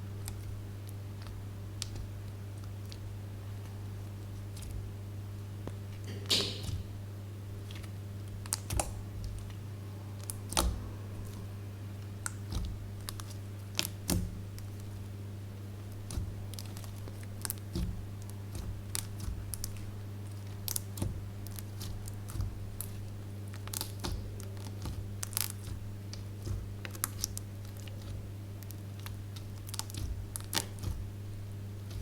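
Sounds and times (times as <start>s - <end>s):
slime clicking and crackling: 0.0s - 6.9s, 7.5s - 9.6s, 10.2s - 32.0s.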